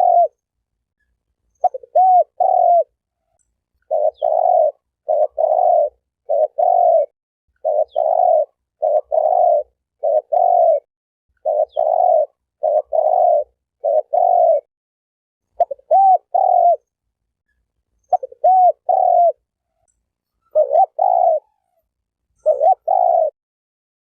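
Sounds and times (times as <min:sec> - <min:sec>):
dove cooing: 0:00.0 - 0:00.4, 0:01.6 - 0:14.7, 0:15.6 - 0:16.9, 0:18.0 - 0:23.4.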